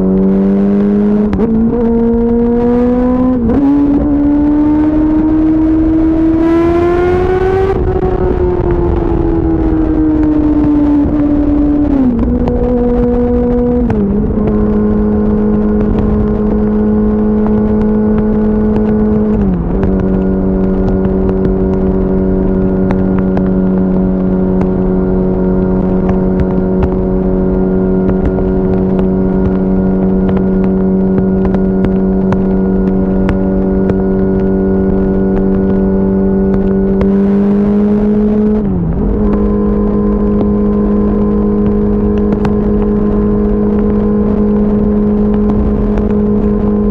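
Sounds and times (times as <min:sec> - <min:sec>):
motorcycle engine cruising: 0:00.0 - 0:46.9
rush of wind noise: 0:00.0 - 0:46.9.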